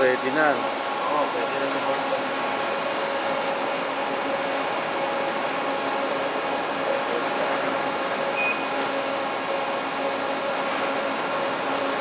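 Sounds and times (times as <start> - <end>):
faint motor hum: 0.0 - 12.0.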